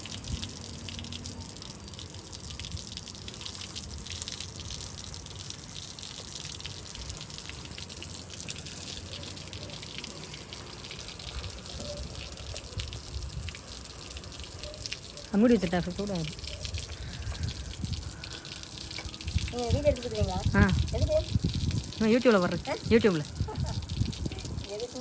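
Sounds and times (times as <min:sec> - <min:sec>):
water running and splashing: 0:00.0 - 0:25.0.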